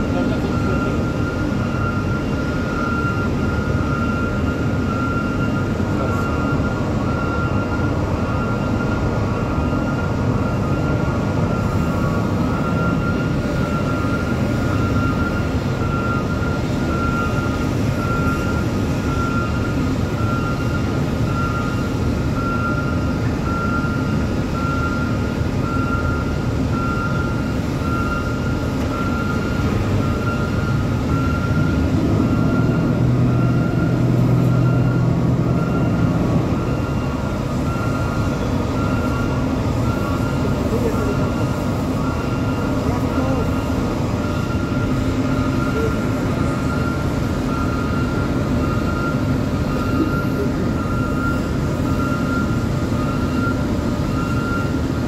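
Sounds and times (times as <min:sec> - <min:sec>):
heavy industrial rumble: 0:00.0 - 0:55.0.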